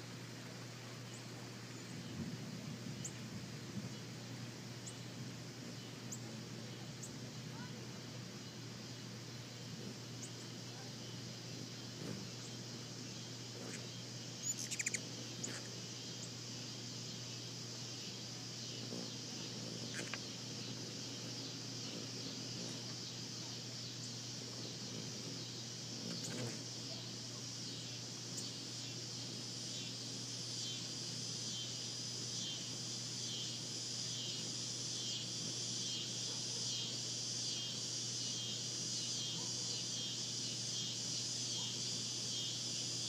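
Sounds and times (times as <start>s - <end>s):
constant low hum: 0.0s - 43.0s
insect chorus shrill drone: 1.0s - 43.0s.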